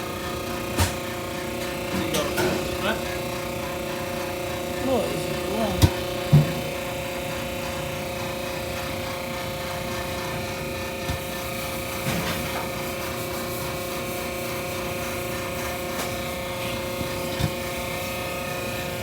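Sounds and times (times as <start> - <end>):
machine droning: 0.0 - 19.0.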